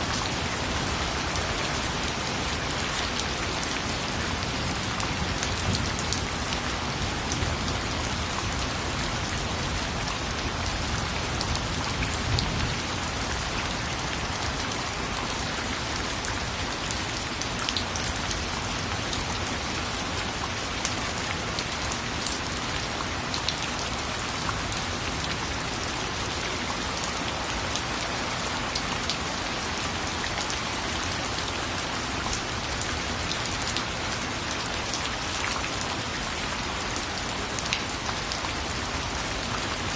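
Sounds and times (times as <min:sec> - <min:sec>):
raindrops pattering on surface: 0:00.0 - 0:39.9
steady rain hiss: 0:00.0 - 0:39.9.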